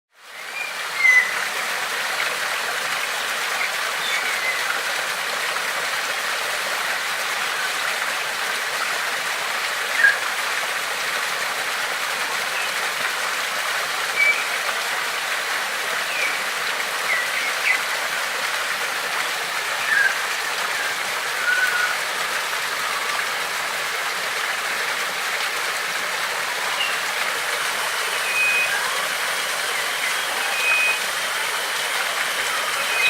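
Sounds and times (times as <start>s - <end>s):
water rushing: 0.2s - 33.0s.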